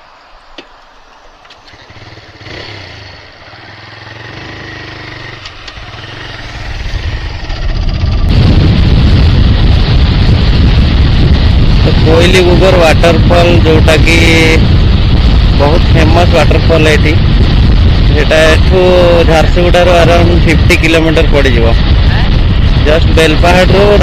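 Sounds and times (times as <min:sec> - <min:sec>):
wind rushing over microphone: 0:00.0 - 0:24.0
motorcycle engine accelerating: 0:01.5 - 0:24.0.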